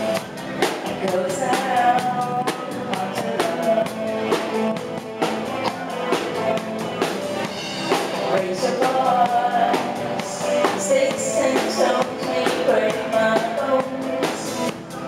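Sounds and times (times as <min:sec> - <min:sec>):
drums steady beat: 0:00.0 - 0:15.0
live band playing: 0:00.0 - 0:15.0
woman singing: 0:00.6 - 0:15.0.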